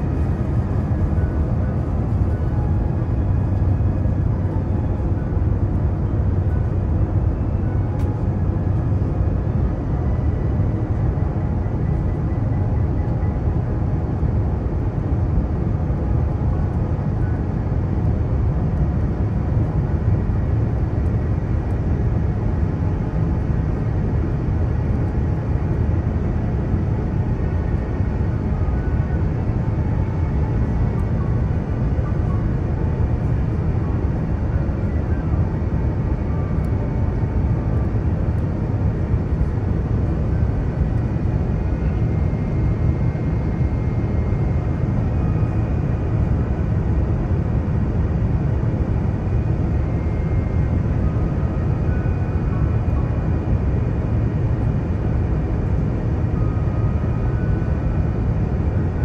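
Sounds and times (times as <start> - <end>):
airliner engine and airflow rumble: 0.0 - 59.0
faint steady whining tones: 0.0 - 59.0.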